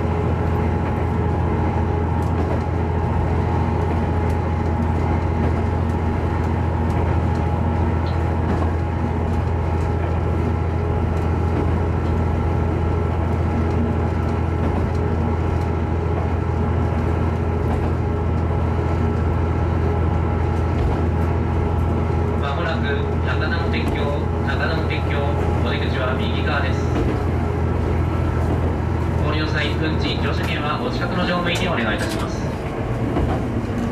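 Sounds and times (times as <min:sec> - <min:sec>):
railcar engine drone: 0:00.0 - 0:33.9
wheels rumbling on rails: 0:00.0 - 0:33.9.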